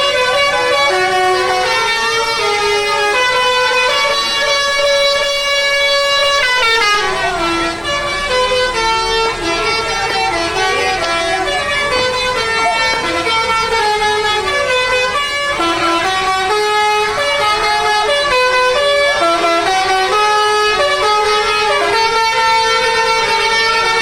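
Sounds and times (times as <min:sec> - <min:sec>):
bus air horns playing a tune: 0:00.0 - 0:24.0.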